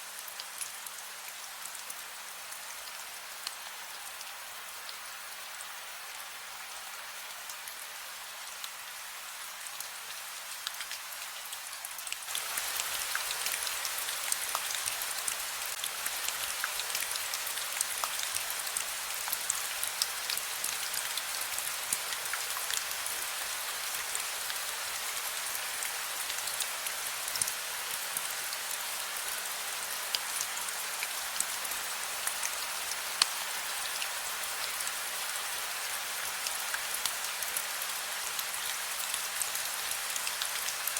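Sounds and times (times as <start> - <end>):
rain falling: 0.1 - 40.9.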